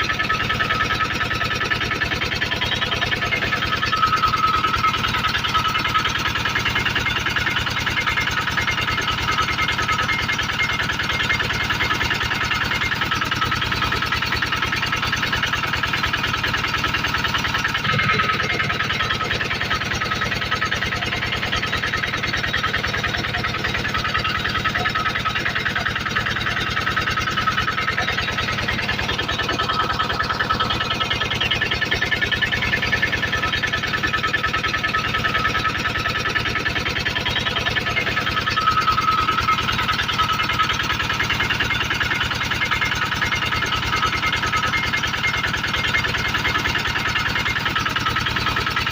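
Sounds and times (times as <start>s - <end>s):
generator engine droning: 0.0s - 48.9s.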